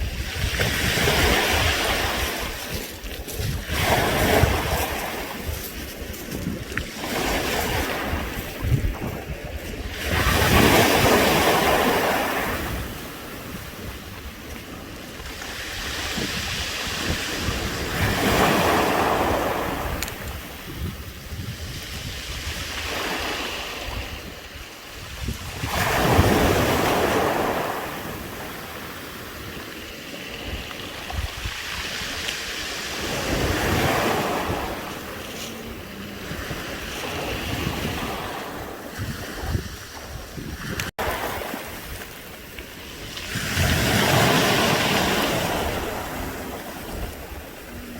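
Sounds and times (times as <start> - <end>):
waves rattling pebbles: 0.0 - 47.9
wind buffeting microphone: 0.0 - 47.9.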